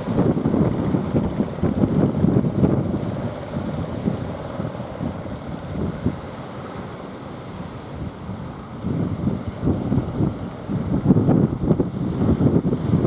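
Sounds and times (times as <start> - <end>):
wind buffeting microphone: 0.0 - 6.8, 7.5 - 13.0
surf washing: 0.0 - 13.0.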